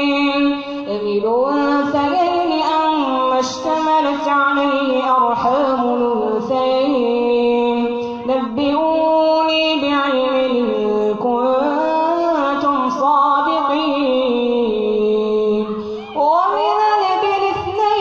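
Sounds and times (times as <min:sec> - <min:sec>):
child chanting melodic recitation: 0:00.0 - 0:18.0.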